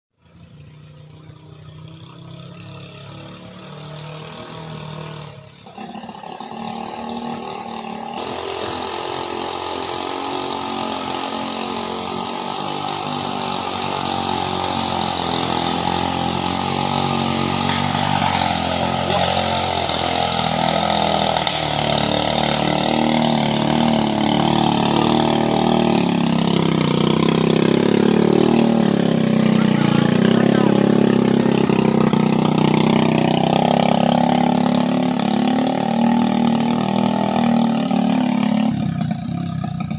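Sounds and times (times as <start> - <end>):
heavy vehicle engine under load: 0.2 - 39.9.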